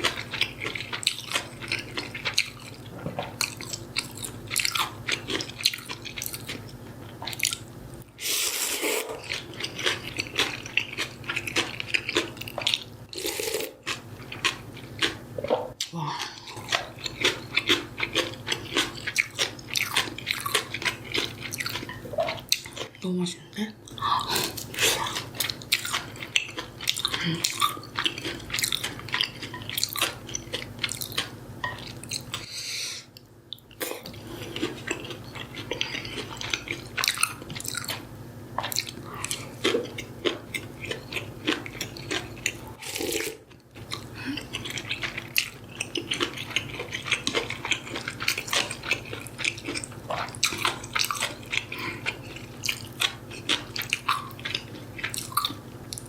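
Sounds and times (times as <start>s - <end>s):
chewing and biting: 0.0s - 7.6s, 8.6s - 23.0s, 23.9s - 32.5s, 33.5s - 56.0s.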